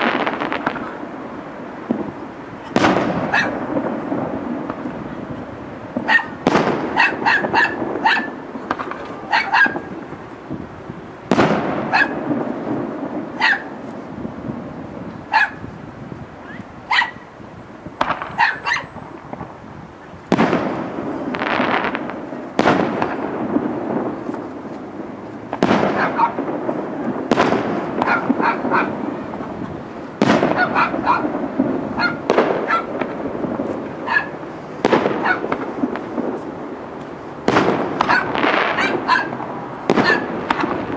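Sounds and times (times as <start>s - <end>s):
crackling rumble of fireworks: 0.0s - 40.9s
fireworks booming: 0.0s - 40.9s.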